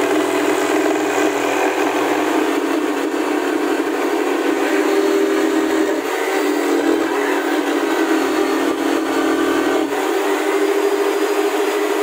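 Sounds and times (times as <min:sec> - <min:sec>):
jigsaw cutting board: 0:00.0 - 0:12.0.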